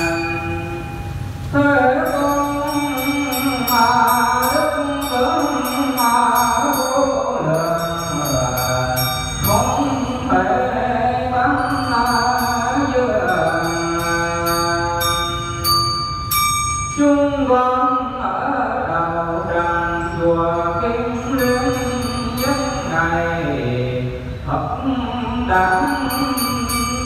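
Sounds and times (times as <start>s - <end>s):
devotional chanting: 0.0s - 27.0s.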